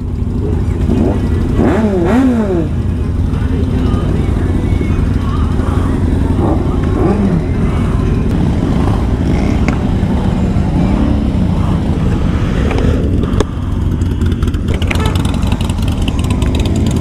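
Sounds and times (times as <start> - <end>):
voices in background: 0.0 - 16.8
motorcycle engines idling: 0.0 - 17.0.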